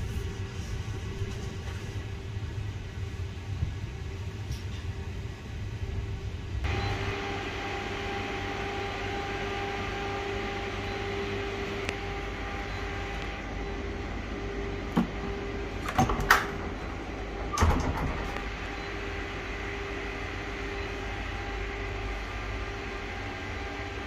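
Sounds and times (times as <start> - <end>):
steady multi-tone hum: 0.0 - 24.0
train low rumble: 0.0 - 24.0
train running and ventilation noise: 0.0 - 24.0.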